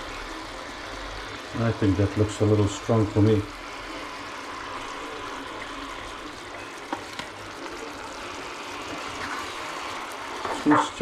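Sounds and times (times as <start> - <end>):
curry hissing in a pot: 0.0 - 11.0.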